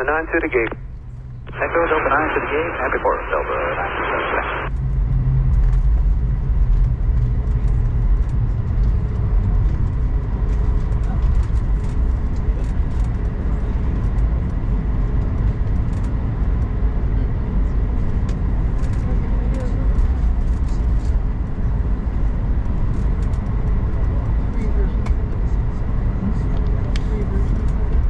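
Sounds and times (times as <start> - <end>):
aircraft engines rumbling: 0.0 - 28.0.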